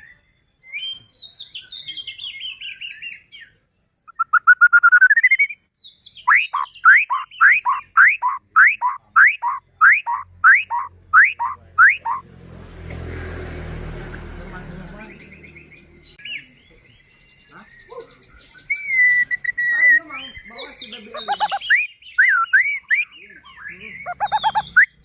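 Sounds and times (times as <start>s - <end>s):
songbird singing loudly: 0.0s - 12.2s, 13.6s - 25.0s.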